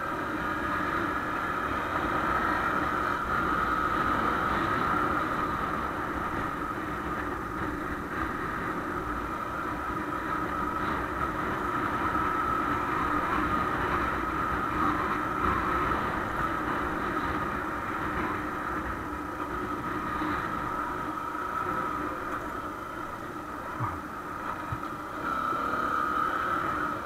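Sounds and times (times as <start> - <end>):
wind rumble on microphone: 0.0 - 25.6
motorcycle engine cruising: 0.0 - 27.0.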